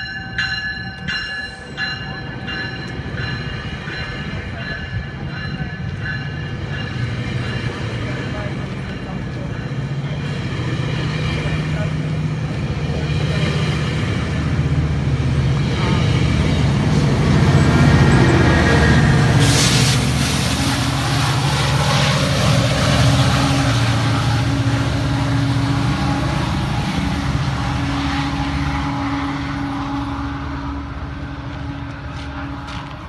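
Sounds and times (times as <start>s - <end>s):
train passing rumble: 0.0s - 33.0s
train wheels rattling on rails: 0.0s - 33.0s.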